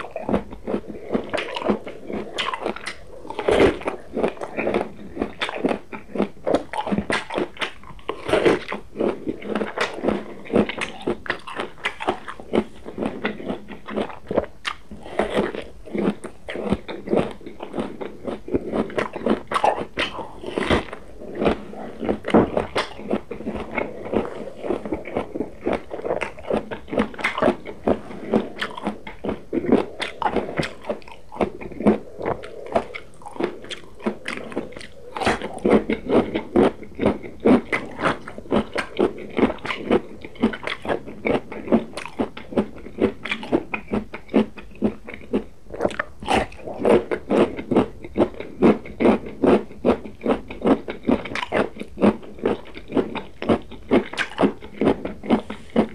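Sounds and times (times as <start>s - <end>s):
chewing and crunching vegetables: 0.0s - 55.9s.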